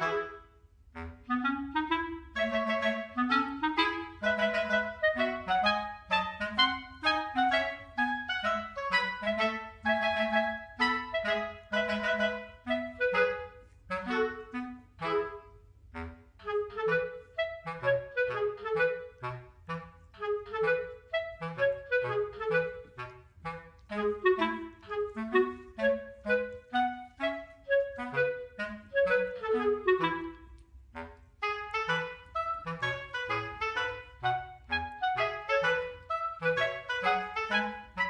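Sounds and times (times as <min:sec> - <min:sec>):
lively woodwind melody: 0:00.0 - 0:38.0.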